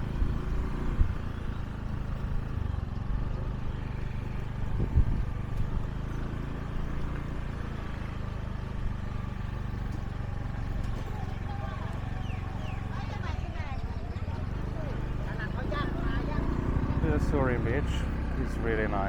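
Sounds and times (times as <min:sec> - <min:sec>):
small motorbike engine running: 0:00.0 - 0:19.0.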